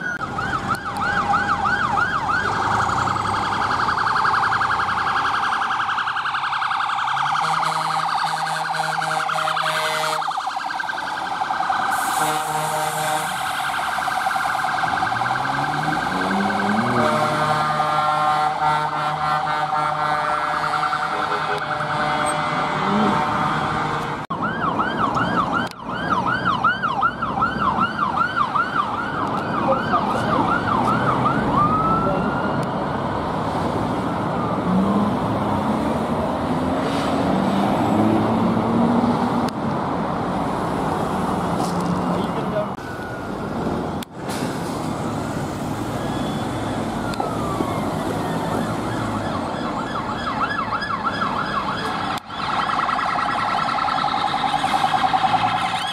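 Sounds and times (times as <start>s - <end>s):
police car siren yelp: 0.0s - 33.2s, 34.0s - 35.8s, 41.6s - 55.9s
fire engine passing: 0.0s - 55.9s
fire engine siren wailing: 0.0s - 55.9s
traffic noise: 0.0s - 55.9s.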